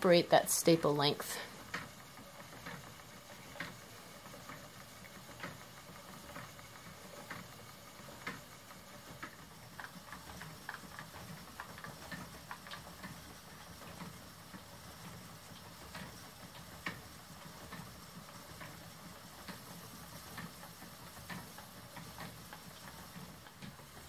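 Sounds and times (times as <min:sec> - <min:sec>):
spinning wheel ticking: 0:00.0 - 0:24.0.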